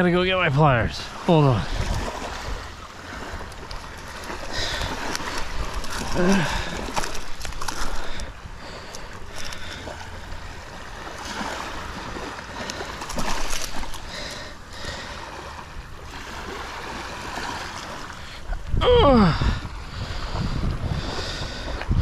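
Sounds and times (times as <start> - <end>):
surf: 0.0 - 22.0
wind: 0.0 - 22.0.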